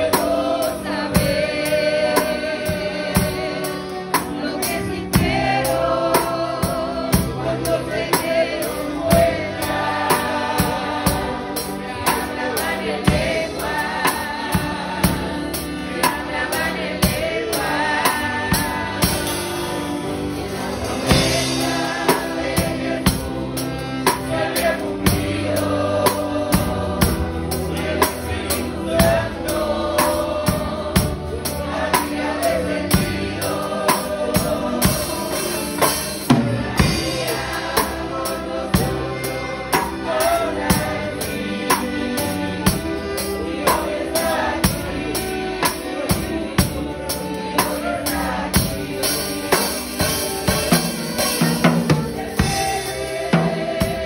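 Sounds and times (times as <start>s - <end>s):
choir and congregation singing hymn: 0.0s - 54.0s
drum kit beat: 0.0s - 54.0s.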